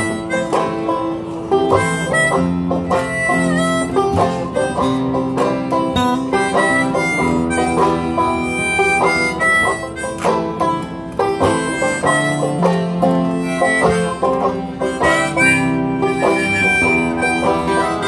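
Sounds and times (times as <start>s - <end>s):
harmonica bending notes: 0.0s - 18.0s
picked banjo: 0.0s - 18.0s
strummed acoustic guitar: 0.0s - 18.0s.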